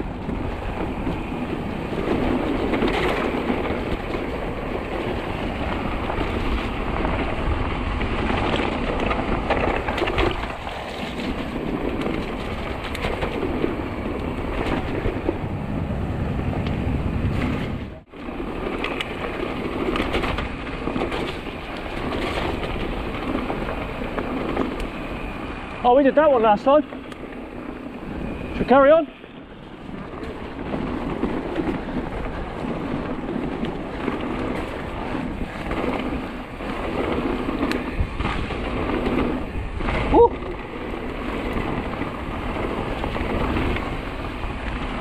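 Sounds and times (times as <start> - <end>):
bike rattling and clicking: 0.0 - 45.0
tyres rolling over rough ground: 0.0 - 45.0
wind on microphone: 0.0 - 45.0.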